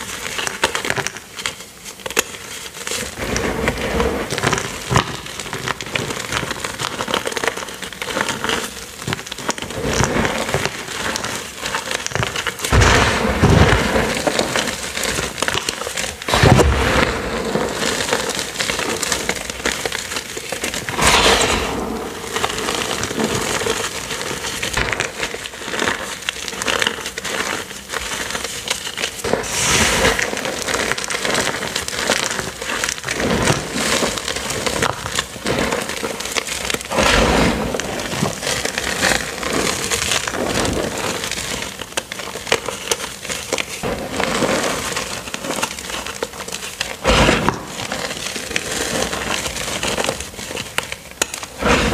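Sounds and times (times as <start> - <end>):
hands crushing chalk crackling: 0.0 - 51.9.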